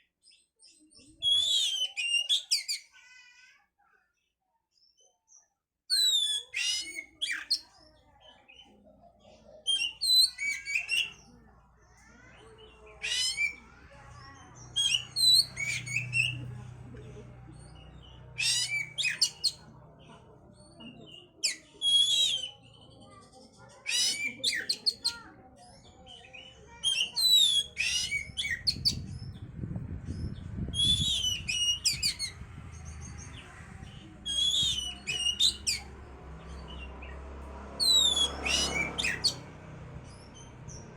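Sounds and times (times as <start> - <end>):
magpie-robin singing: 0.2 - 2.9, 5.9 - 16.8, 17.6 - 37.2, 37.8 - 40.9.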